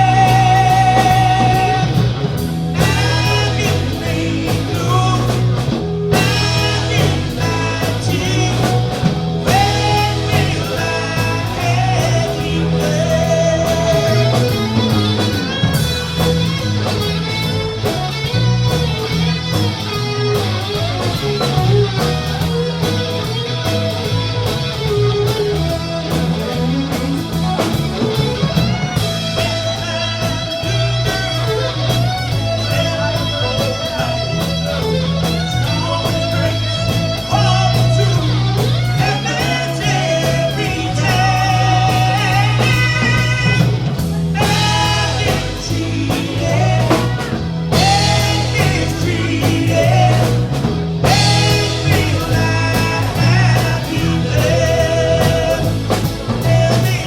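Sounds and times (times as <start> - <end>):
bass guitar: 0.0 - 57.0
drums: 0.0 - 57.0
electric guitar lead: 0.0 - 57.0.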